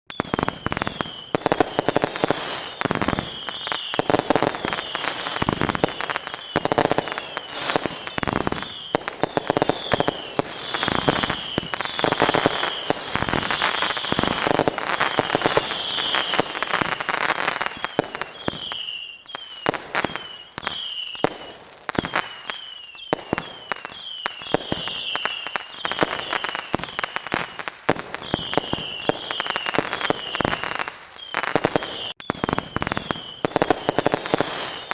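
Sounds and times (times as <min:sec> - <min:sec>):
fireworks bangs and crackles: 0:00.1 - 0:34.9
fireworks whistling: 0:00.1 - 0:34.9.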